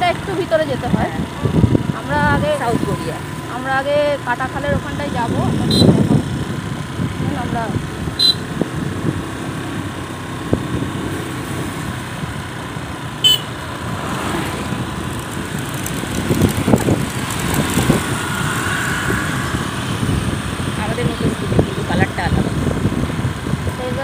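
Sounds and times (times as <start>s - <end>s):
motor scooter engine and road noise: 0.0s - 24.0s.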